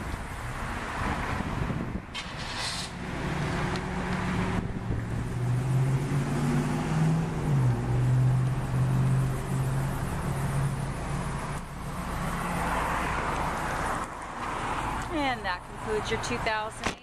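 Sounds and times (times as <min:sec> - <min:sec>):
low engine hum: 0:00.0 - 0:16.8.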